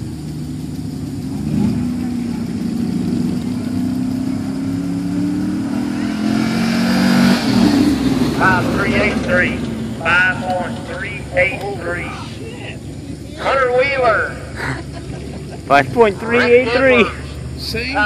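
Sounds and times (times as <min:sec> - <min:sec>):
truck engine running hard: 0:00.0 - 0:18.0.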